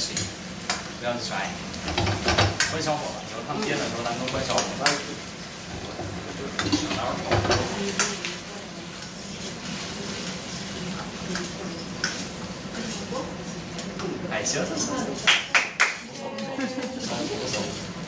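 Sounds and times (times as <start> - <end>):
light sizzle: 0.0 - 18.0.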